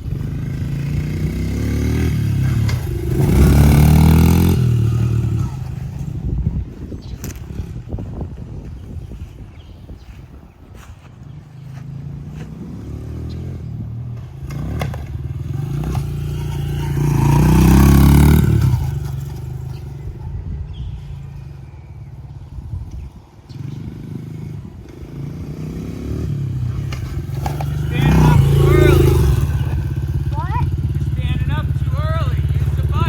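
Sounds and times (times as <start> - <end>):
dirt bike engine revving: 0.0 - 8.2, 11.8 - 21.7, 23.5 - 33.0.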